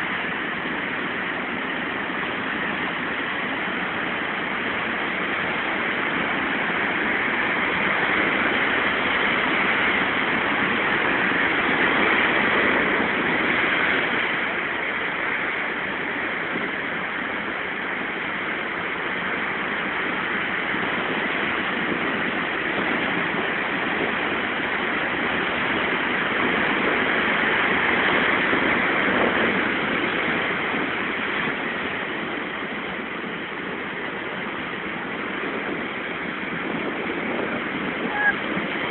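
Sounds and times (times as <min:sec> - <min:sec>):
sea surf breaking over rocks: 0:00.0 - 0:38.9.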